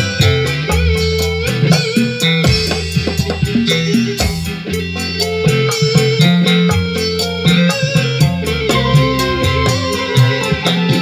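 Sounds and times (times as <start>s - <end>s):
music with guitar and drum beat: 0.0s - 11.0s.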